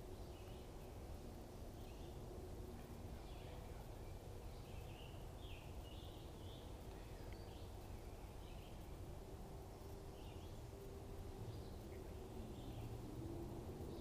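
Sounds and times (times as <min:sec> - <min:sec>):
birds chirping faintly: 0:00.0 - 0:14.0
low background rumble: 0:00.0 - 0:14.0.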